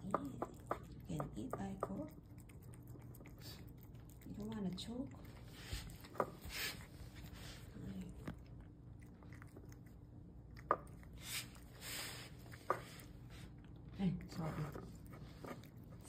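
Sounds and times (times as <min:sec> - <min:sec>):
cat chewing food: 0:00.0 - 0:16.0.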